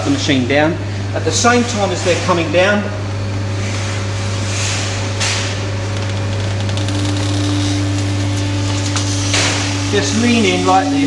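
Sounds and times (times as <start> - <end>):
hydraulic pump motor hum: 0.0 - 11.0.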